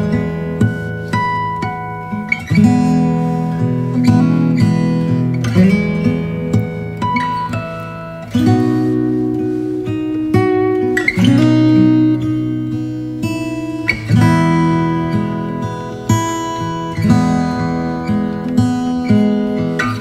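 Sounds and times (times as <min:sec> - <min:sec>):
strummed acoustic guitar chords: 0:00.0 - 0:20.0.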